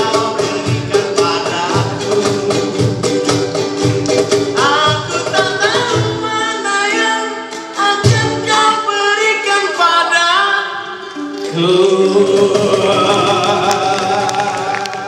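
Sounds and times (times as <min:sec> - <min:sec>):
male voices singing in harmony: 0:00.0 - 0:03.5, 0:04.5 - 0:10.8, 0:11.4 - 0:15.0.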